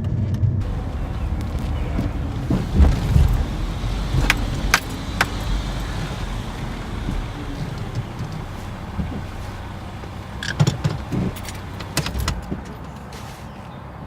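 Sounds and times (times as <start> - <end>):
car cabin rumble: 0.0 - 13.1
dull thumps: 0.6 - 13.0.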